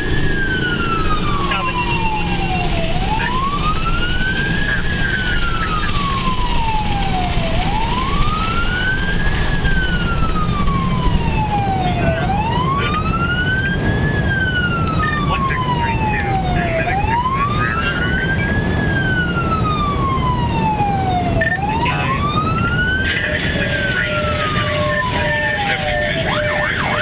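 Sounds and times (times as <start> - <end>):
engine and road noise: 0.0 - 27.0
siren wailing: 0.0 - 27.0.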